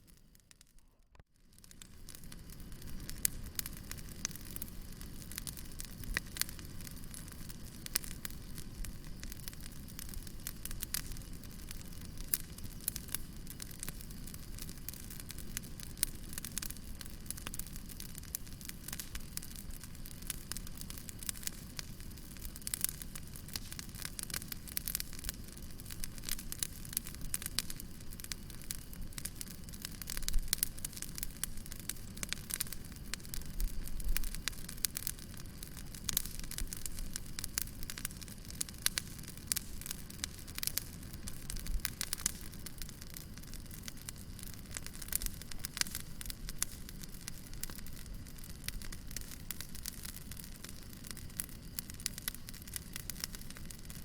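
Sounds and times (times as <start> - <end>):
wood fire crackling: 0.0 - 54.0
low rumble of flames: 0.1 - 54.0.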